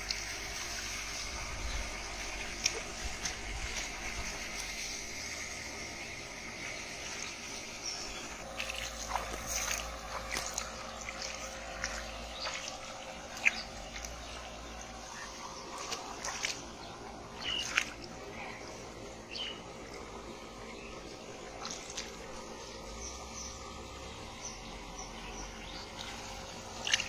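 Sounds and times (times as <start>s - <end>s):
small splashes of water: 0.0s - 27.0s.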